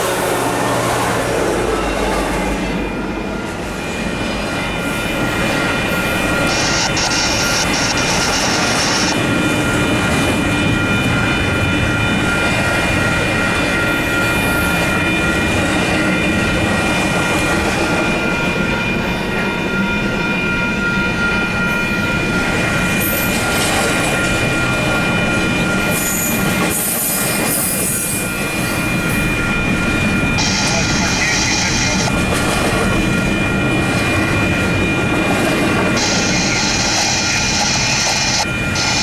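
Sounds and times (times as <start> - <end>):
freight train rumbling on rails: 0.0 - 39.0.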